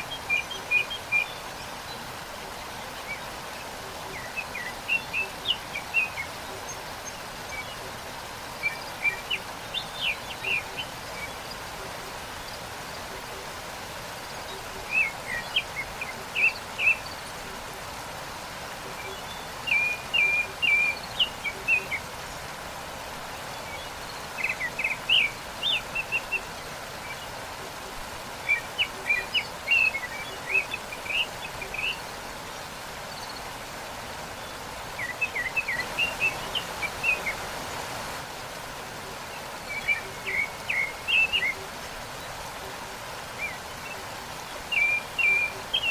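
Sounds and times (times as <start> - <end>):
songbird chirping: 0.0 - 45.9
waterfall rushing: 0.0 - 45.9.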